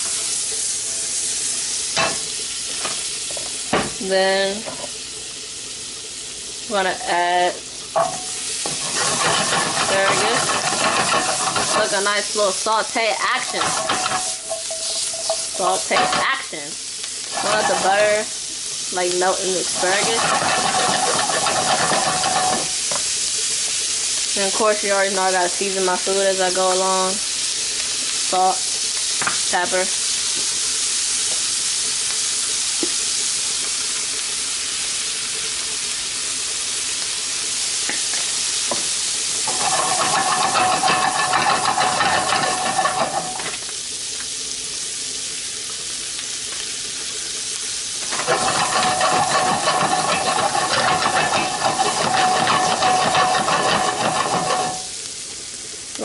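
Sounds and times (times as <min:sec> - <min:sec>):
butter sizzling in a pan: 0:00.0 - 0:56.0.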